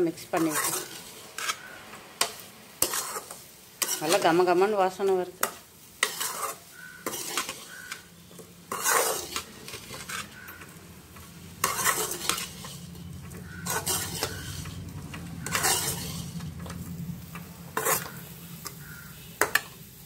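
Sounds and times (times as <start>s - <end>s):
metal ladle scraping a pan: 0.2s - 19.9s.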